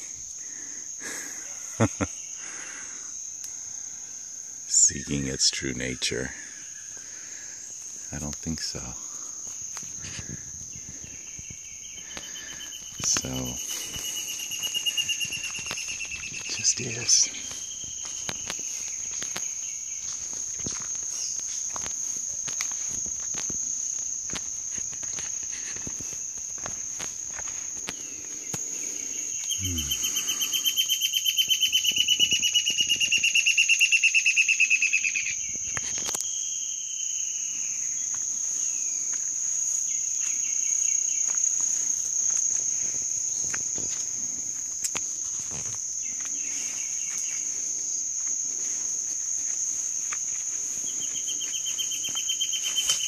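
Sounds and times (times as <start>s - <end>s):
high-pitched insect drone: 0.0s - 53.0s
rapidly pulsing insect call: 0.0s - 53.0s.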